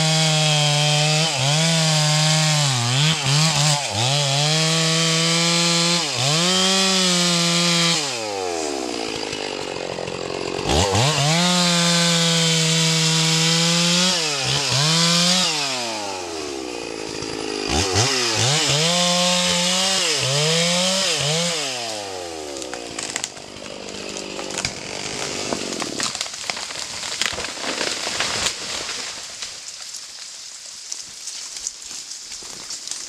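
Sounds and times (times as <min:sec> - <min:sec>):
chainsaw revving: 0:00.0 - 0:26.5
wood cracking and snapping: 0:00.0 - 0:33.0.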